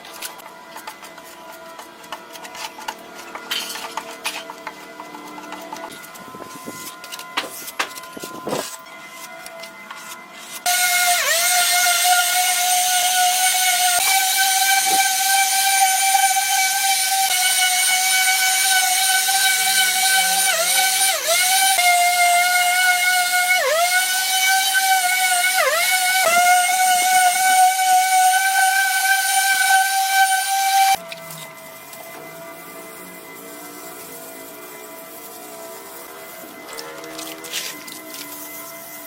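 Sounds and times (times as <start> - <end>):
electric power tool whining: 3.0 - 39.0.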